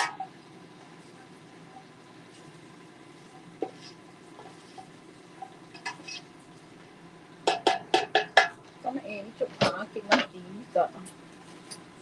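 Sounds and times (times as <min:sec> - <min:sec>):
low steady cooking hiss: 0:00.0 - 0:12.0.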